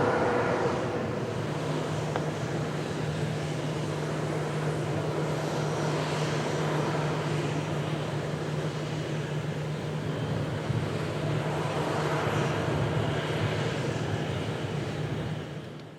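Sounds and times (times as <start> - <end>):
jet engines running: 0.0 - 15.9.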